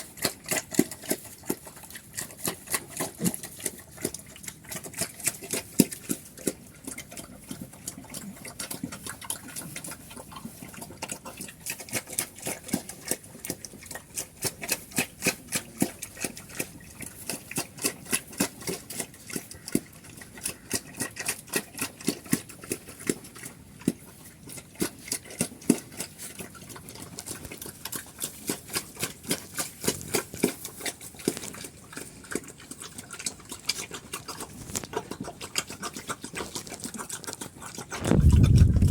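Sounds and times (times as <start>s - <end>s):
pigs chewing and crunching: 0.0s - 38.9s.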